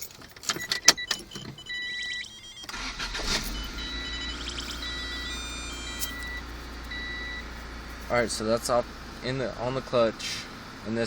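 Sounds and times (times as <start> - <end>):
car engine starting and idling: 0.0 - 11.0
car warning chime beeping: 0.5 - 10.0.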